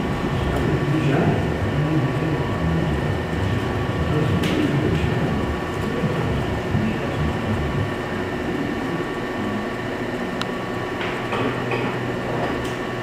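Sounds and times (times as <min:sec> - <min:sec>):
mechanical hum with low rumble: 0:00.0 - 0:13.0.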